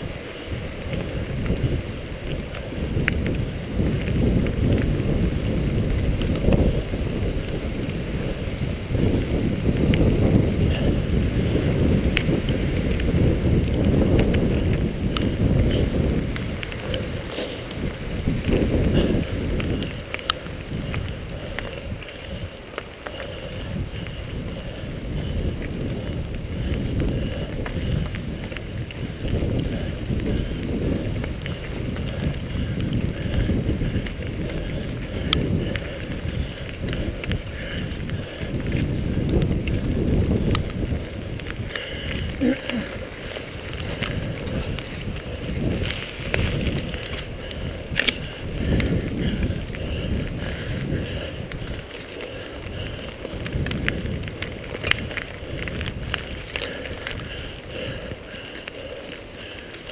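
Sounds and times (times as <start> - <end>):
bike clicks and rattles: 0.0 - 59.9
wind buffeting microphone: 0.0 - 59.9.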